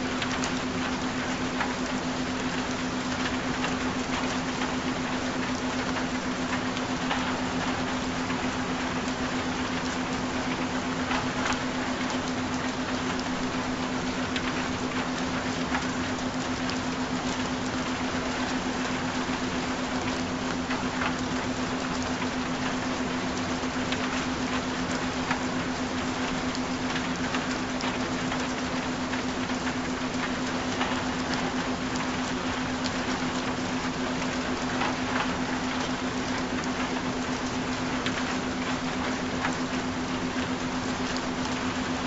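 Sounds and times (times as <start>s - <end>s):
rain falling: 0.0s - 42.0s.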